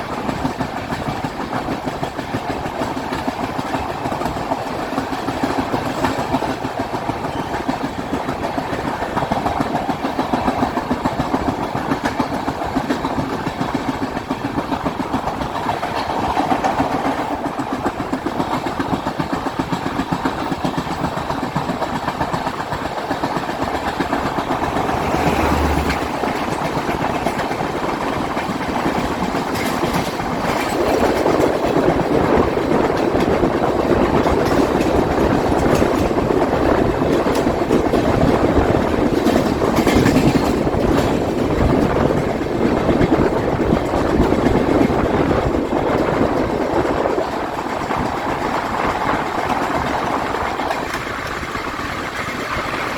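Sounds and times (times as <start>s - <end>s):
train running rumble: 0.0s - 52.9s
train wheels clattering over joints: 0.0s - 52.9s.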